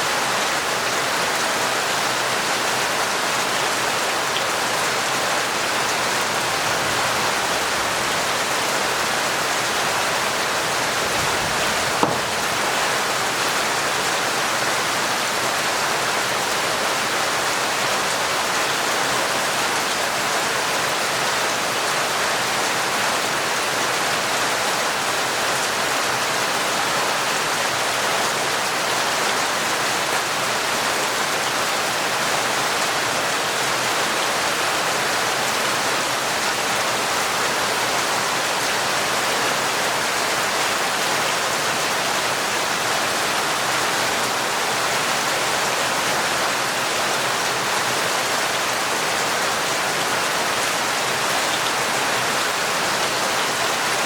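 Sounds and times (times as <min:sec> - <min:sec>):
torrential rain: 0:00.0 - 0:54.0.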